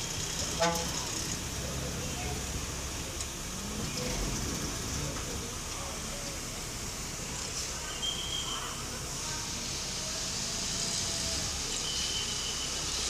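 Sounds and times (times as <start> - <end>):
bus engine rumble: 0.0 - 13.0
faint murmur of people: 0.0 - 13.0.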